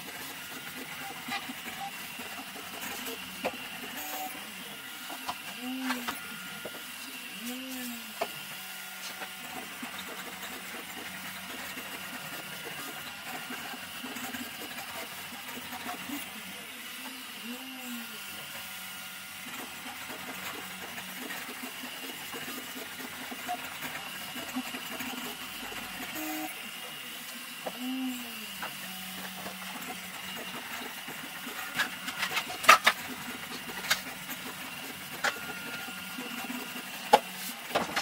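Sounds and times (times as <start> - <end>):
stepper motor whines: 0.0 - 38.0.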